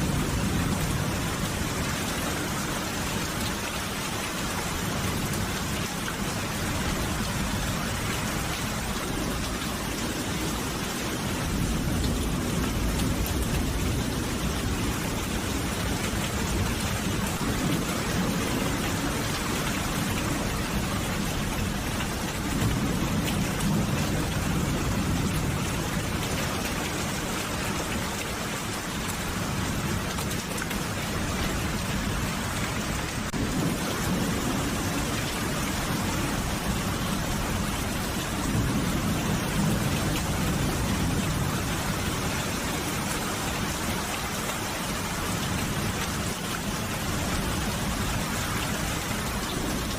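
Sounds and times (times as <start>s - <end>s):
rain pattering on surfaces: 0.0s - 49.9s.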